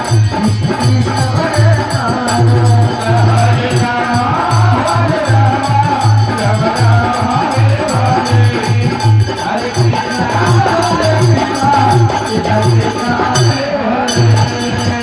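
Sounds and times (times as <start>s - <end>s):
low drum beat: 0.0s - 13.6s
jingling hand percussion: 0.0s - 15.0s.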